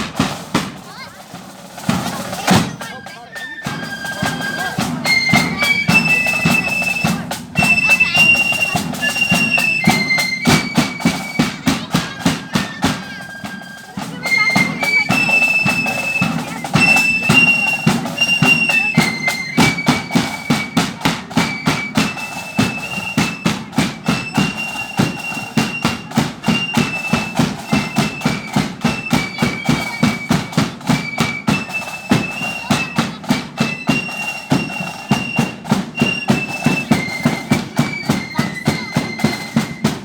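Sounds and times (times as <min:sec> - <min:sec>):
rapid snare drumming: 0:00.0 - 0:40.0
flute melody: 0:01.2 - 0:40.0.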